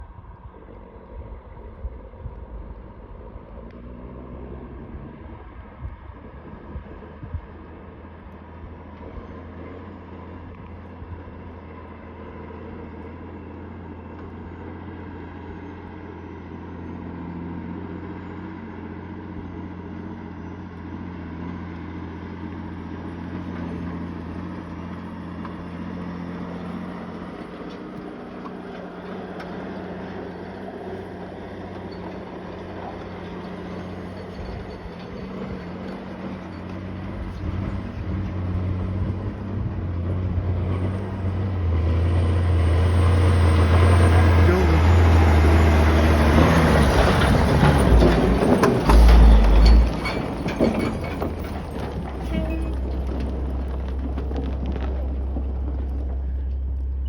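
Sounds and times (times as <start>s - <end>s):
diesel truck engine pulling uphill: 0.0s - 57.0s.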